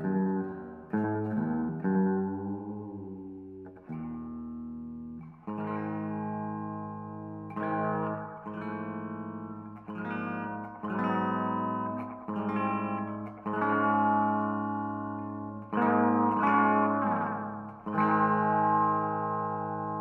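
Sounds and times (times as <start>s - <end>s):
electric guitar chords ringing: 0.0s - 20.0s.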